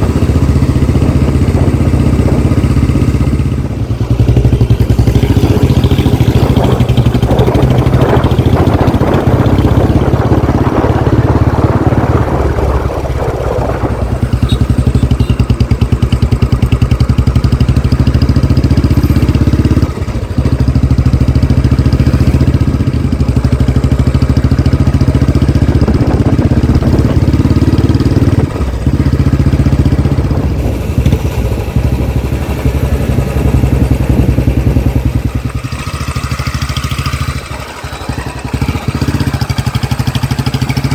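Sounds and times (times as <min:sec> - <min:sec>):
motorcycle engine exhaust beat: 0:00.0 - 0:40.9.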